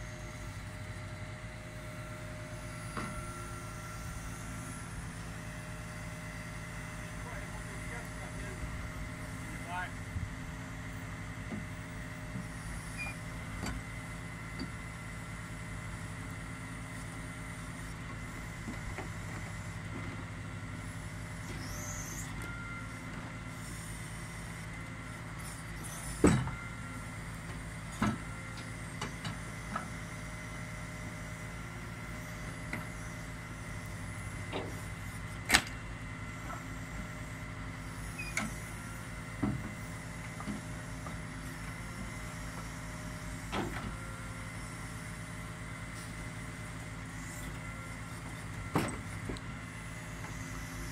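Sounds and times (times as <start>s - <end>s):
truck engine running: 0.0s - 50.9s.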